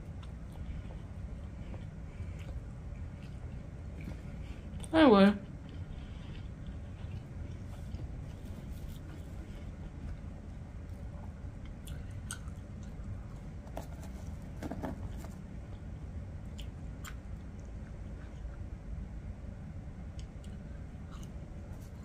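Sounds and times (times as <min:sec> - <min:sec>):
person chewing food: 0:00.0 - 0:14.4, 0:16.5 - 0:18.7, 0:20.1 - 0:22.0
low steady hum: 0:00.0 - 0:22.0.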